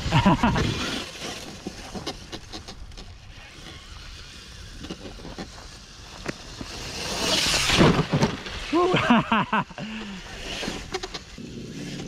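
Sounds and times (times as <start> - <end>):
rc truck motor and tyres: 0.0 - 12.0.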